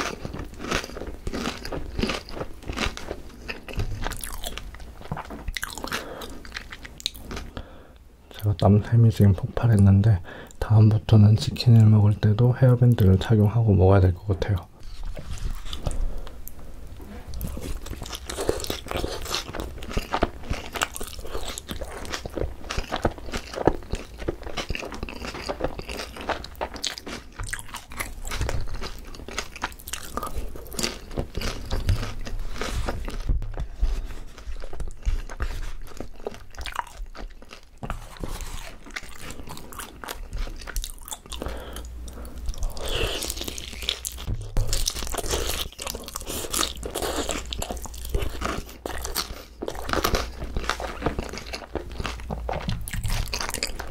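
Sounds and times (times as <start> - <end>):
chewing crispy fried chicken: 0.0 - 7.7, 17.1 - 33.3, 34.2 - 53.9.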